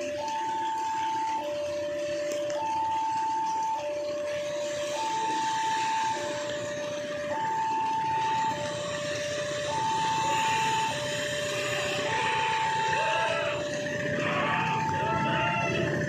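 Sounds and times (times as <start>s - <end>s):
heavy rain: 0.0s - 16.0s
two-tone warning alarm: 0.0s - 16.0s.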